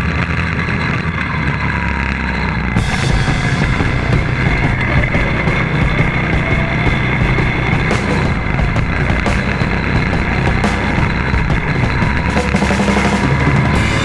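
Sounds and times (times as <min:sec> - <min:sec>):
go-kart running: 0:00.0 - 0:14.0
hard rock music: 0:02.8 - 0:14.0.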